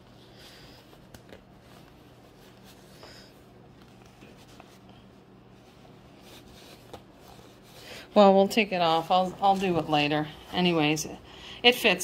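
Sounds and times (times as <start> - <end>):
rain jacket fabric rustling: 0.0 - 11.1.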